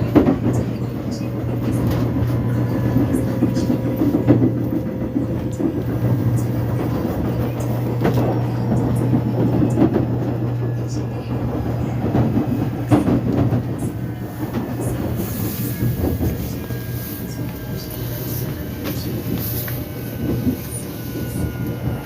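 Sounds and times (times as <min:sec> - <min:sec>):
rumbling track noise: 0:00.0 - 0:22.0
subway train motor and wheel hum: 0:00.0 - 0:22.0.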